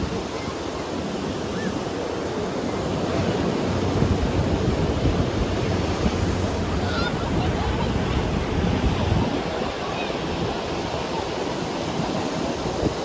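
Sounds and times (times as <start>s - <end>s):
ocean waves breaking on beach: 0.0s - 13.0s.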